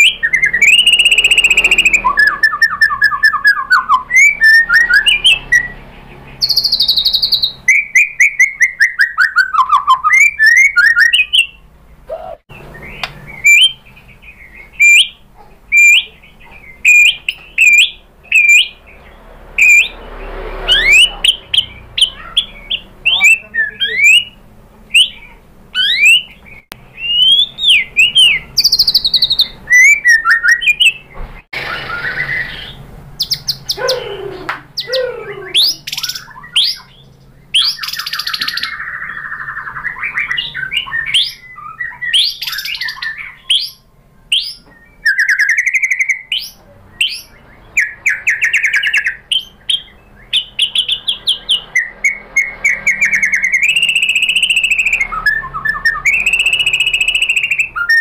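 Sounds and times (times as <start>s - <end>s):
bird singing whistles and trills: 0.0s - 20.0s, 20.7s - 58.0s.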